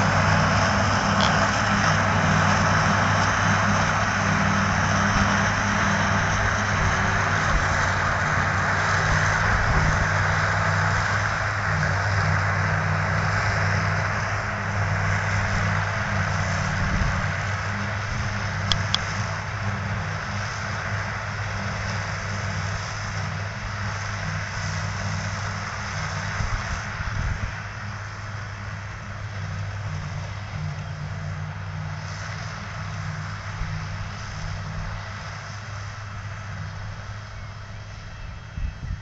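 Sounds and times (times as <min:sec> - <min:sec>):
forage harvester droning: 0:00.0 - 0:39.0
tractor engine: 0:00.0 - 0:39.0.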